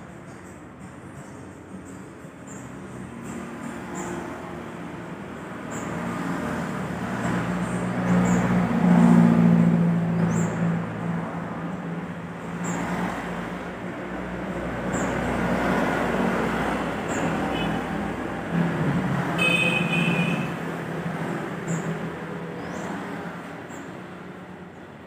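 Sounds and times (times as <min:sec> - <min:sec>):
traffic hum: 0:00.0 - 0:25.0
motorcycles passing: 0:01.0 - 0:25.0.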